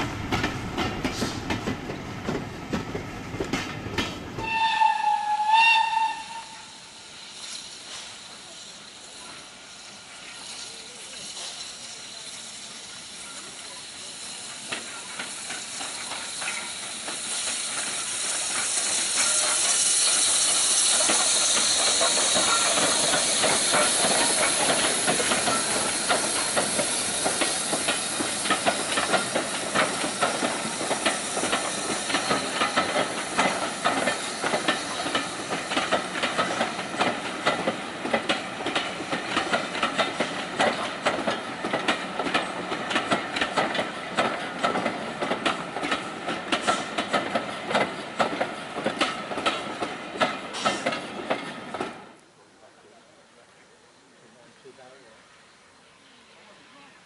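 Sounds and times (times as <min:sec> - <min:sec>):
train wheels clicking over rail joints: 0:00.0 - 0:52.2
steam locomotive hissing: 0:00.0 - 0:57.0.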